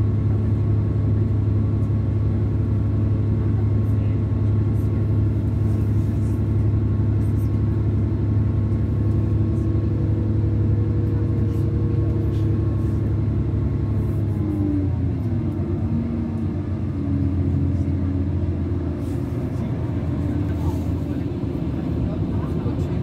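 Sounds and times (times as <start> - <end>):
train diesel engine droning: 0.0 - 23.0.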